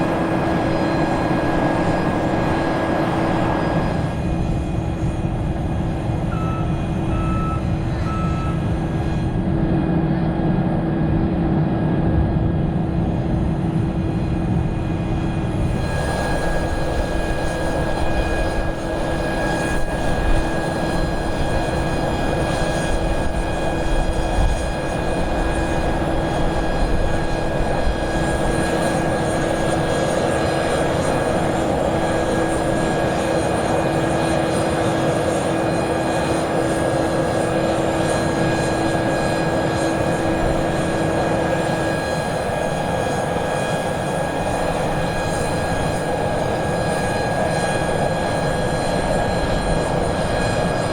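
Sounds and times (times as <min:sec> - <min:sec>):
turboprop engines droning: 0:00.0 - 0:50.9.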